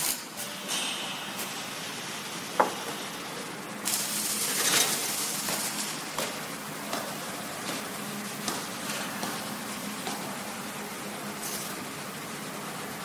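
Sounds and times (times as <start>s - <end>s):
welding machine hissing: 0.0s - 12.6s.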